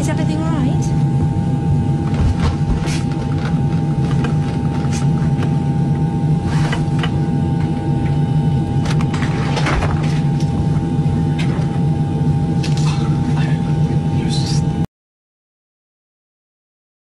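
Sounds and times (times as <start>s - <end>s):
airliner cabin drone: 0.0s - 14.9s
high whine: 0.0s - 14.9s.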